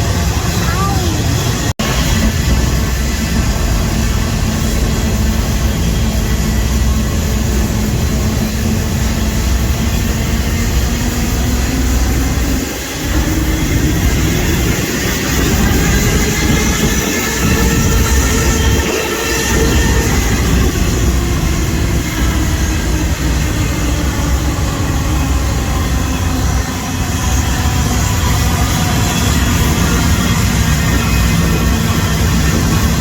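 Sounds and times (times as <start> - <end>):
freight train rumbling: 0.0 - 33.0.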